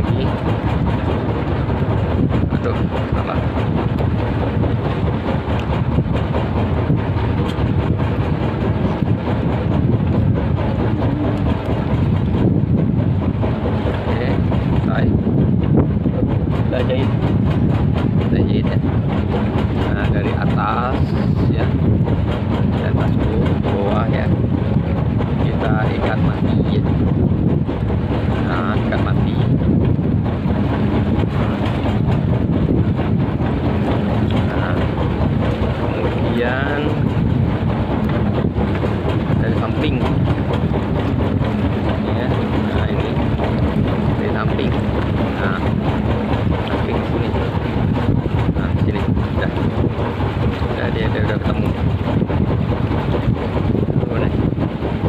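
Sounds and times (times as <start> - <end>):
boat engine rumbling: 0.0 - 55.0
wind buffeting microphone: 0.0 - 55.0.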